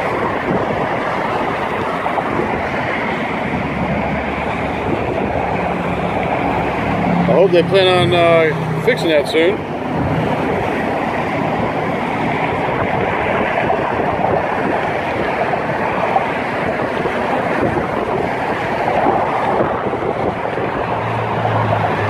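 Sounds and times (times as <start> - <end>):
passing road traffic: 0.0 - 22.0
wind buffeting microphone: 0.0 - 22.0.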